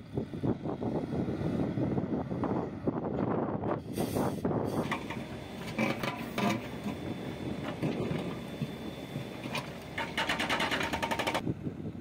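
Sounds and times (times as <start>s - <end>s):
backhoe diesel engines running: 0.0s - 12.0s.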